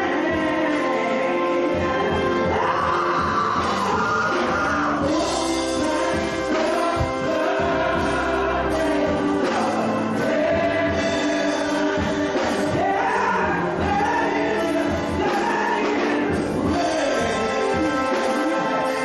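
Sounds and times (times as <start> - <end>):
gospel choir singing: 0.0 - 19.0
instrumental backing: 0.0 - 19.0.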